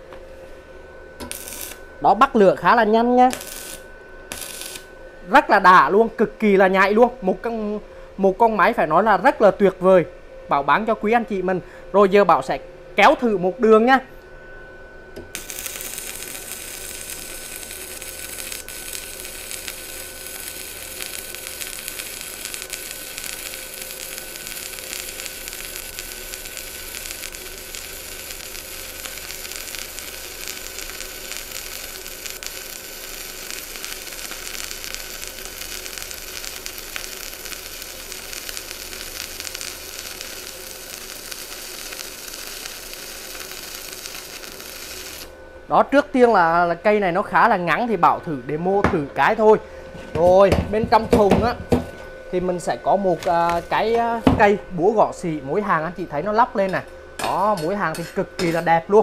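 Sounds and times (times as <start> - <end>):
faint steady whine: 0.0 - 59.0
welding arc crackling sizzle: 1.2 - 6.6, 15.2 - 59.0.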